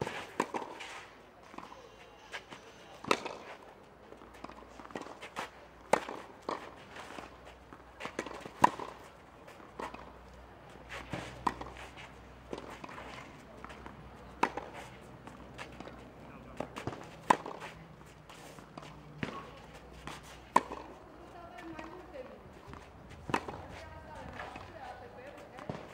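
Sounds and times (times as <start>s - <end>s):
racket hitting tennis ball: 0.0s - 1.7s, 2.4s - 25.9s
tennis ball bouncing: 0.0s - 1.8s, 2.4s - 25.9s.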